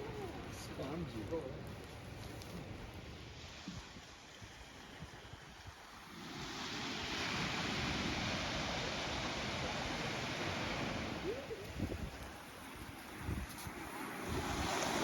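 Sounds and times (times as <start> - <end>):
ocean wave washing: 2.9 - 15.0.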